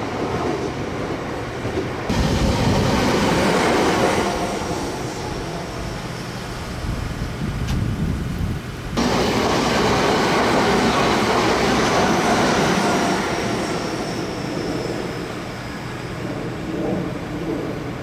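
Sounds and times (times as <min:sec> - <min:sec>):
train running past: 0:00.0 - 0:07.8, 0:09.0 - 0:18.0.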